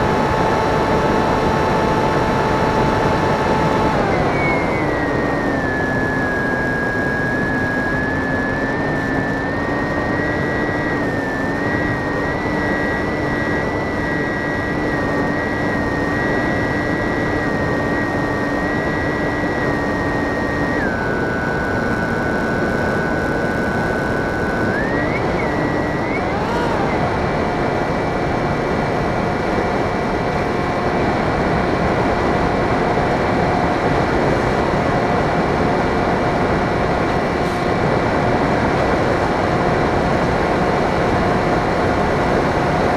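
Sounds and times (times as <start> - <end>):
model plane motor whine: 0.0 - 42.9.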